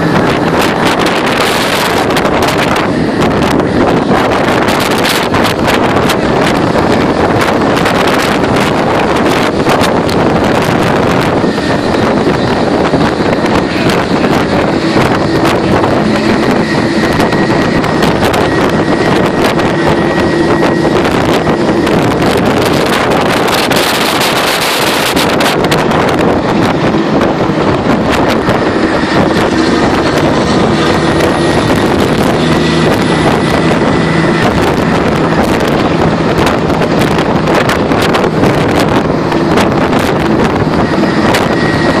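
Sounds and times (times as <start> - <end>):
truck engine and tyres drone: 0.0 - 42.0
wind rushing over microphone: 0.0 - 42.0.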